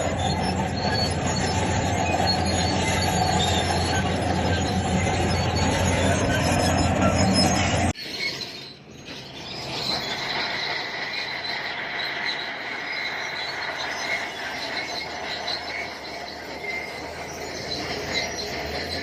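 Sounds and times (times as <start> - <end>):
crawler tracks squealing: 0.0 - 19.0
loud machine noise: 0.0 - 19.0.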